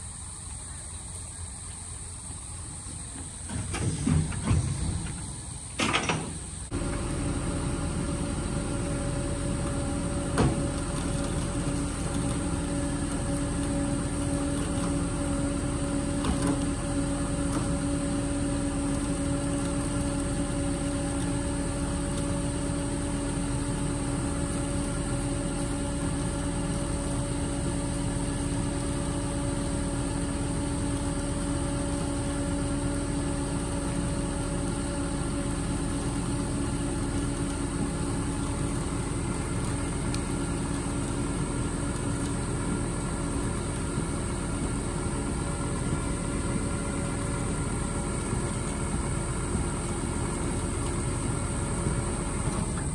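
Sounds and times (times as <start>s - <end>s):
truck engine idling: 0.0s - 52.9s.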